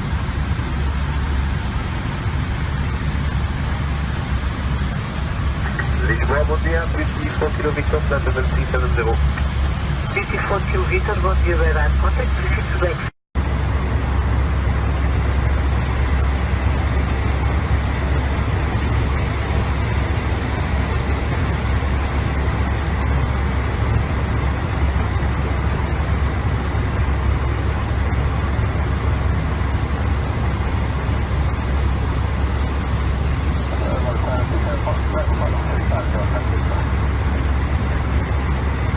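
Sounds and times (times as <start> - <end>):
airflow over airliner fuselage: 0.0 - 38.9
engine hum: 0.0 - 38.9.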